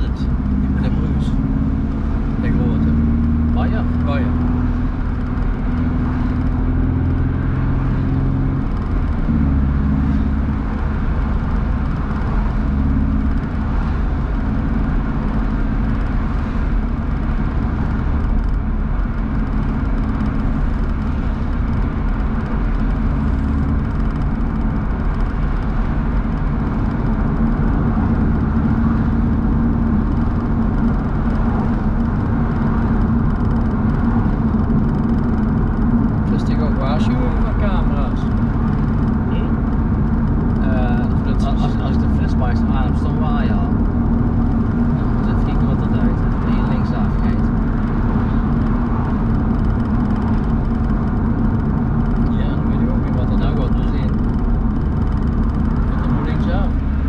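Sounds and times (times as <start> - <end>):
car engine under load: 0.0 - 57.0
road and wind noise: 0.0 - 57.0.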